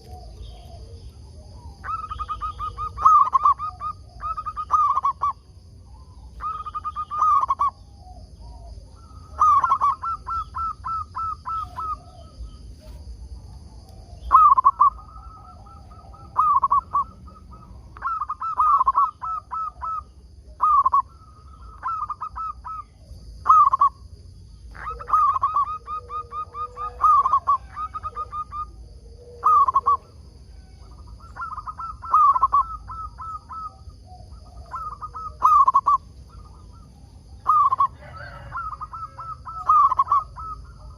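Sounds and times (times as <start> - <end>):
dove cooing: 0.0 - 40.9
faint high-pitched whine: 0.0 - 40.9.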